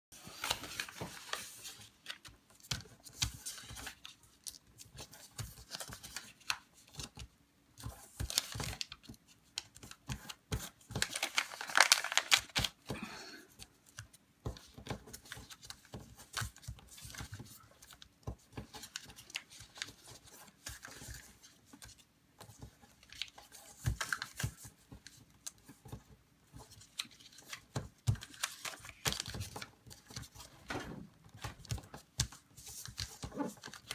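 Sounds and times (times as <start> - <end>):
paper rustling and creasing: 0.2 - 7.2, 7.8 - 12.9, 13.9 - 33.9.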